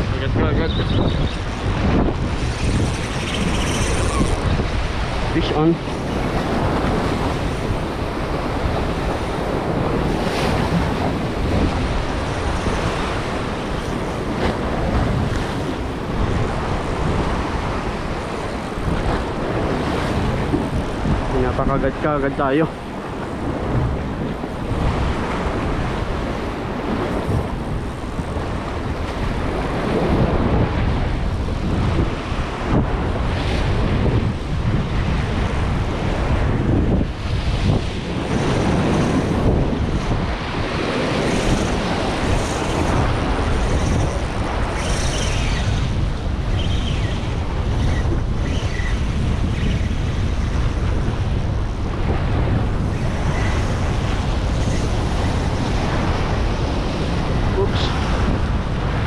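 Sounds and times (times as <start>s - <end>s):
waves washing against rocks: 0.0s - 59.0s
wind buffeting microphone: 0.0s - 59.0s.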